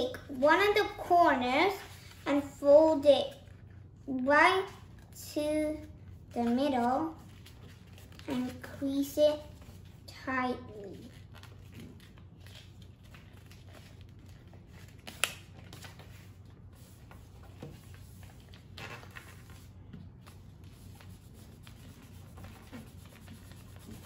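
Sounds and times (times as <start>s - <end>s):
paper rustling and creasing: 4.6s - 24.0s.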